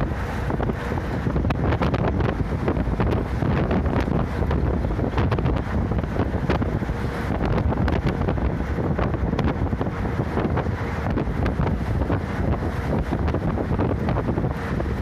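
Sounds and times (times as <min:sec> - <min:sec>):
bus rumbling on highway: 0:00.0 - 0:15.0
wind rushing over microphone: 0:00.0 - 0:15.0.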